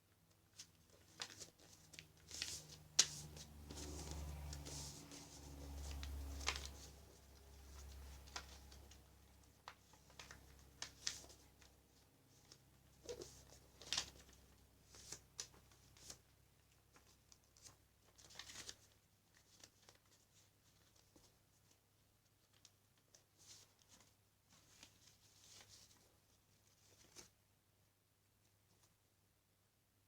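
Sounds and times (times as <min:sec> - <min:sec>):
faint low hum: 0:00.0 - 0:30.0
paper rustling: 0:00.4 - 0:27.4.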